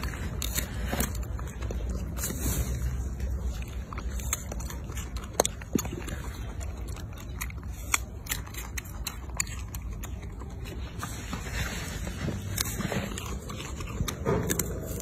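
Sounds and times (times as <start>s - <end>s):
monkey crunching fruit: 0.0s - 15.0s.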